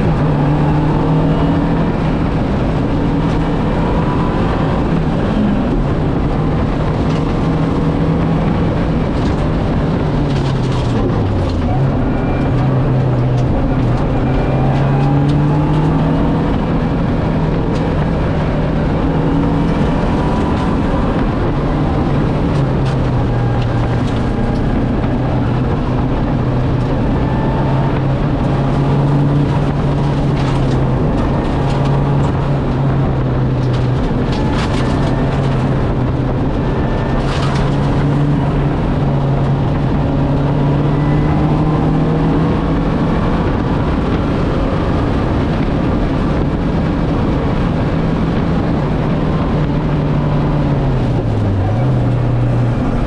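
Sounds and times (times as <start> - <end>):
car engine running hard: 0.0 - 53.0
road and tyre noise: 0.0 - 53.0.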